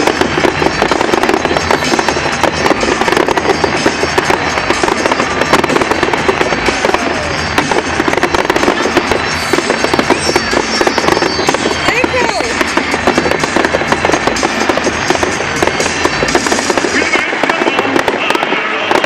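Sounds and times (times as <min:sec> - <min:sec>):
fireworks crackling and banging: 0:00.0 - 0:19.0.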